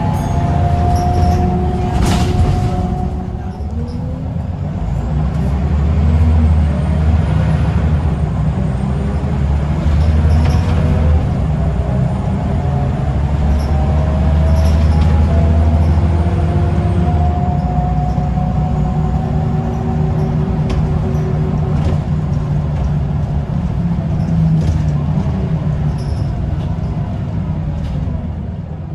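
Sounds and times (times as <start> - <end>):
bus diesel engine under load: 0.0 - 28.9.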